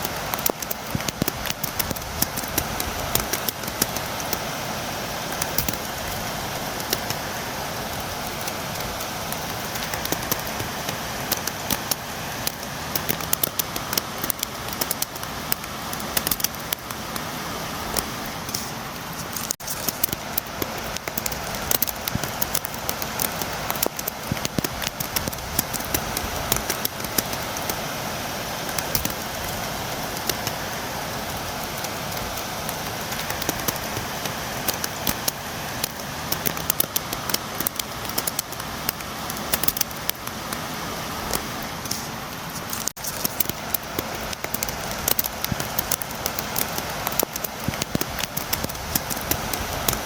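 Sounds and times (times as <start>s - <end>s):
raindrops tapping on window: 0.0s - 17.3s, 19.4s - 27.8s, 28.7s - 40.7s, 42.7s - 50.0s
steady rain hiss: 0.0s - 50.0s.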